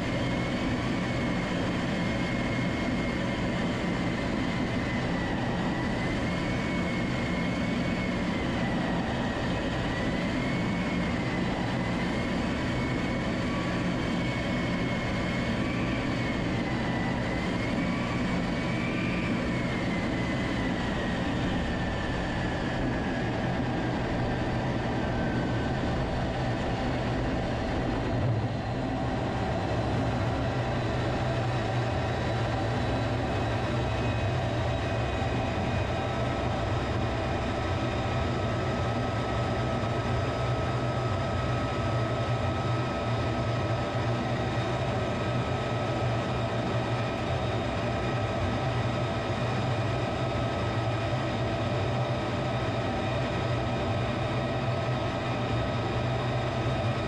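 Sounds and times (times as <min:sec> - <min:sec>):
high engine whine: 0:00.0 - 0:57.0
wheels rumbling on runway: 0:00.0 - 0:57.0
wind rush and jet engine noise: 0:00.0 - 0:57.0.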